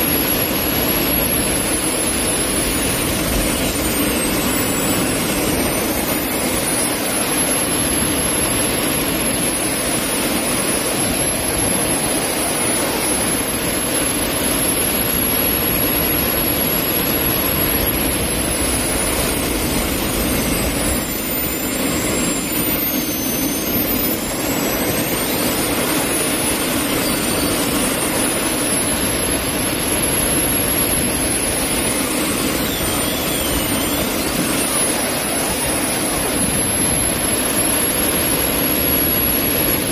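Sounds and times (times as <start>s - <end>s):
high turbine whines: 0.0s - 39.9s
jet engines roaring: 0.0s - 39.9s.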